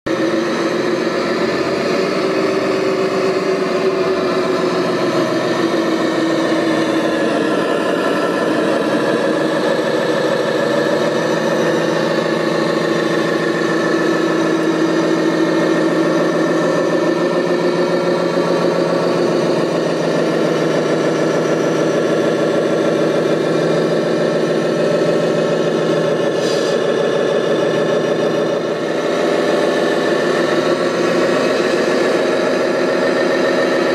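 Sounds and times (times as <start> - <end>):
model engine idling: 0.1 - 33.9.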